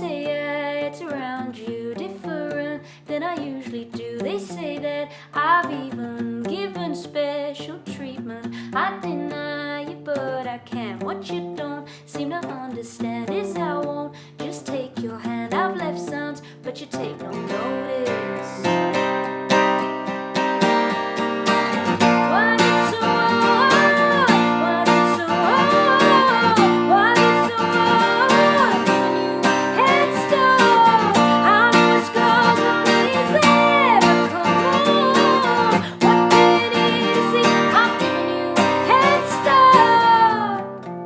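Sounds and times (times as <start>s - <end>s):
strummed acoustic guitar: 0.0s - 41.0s
woman singing: 0.0s - 41.0s.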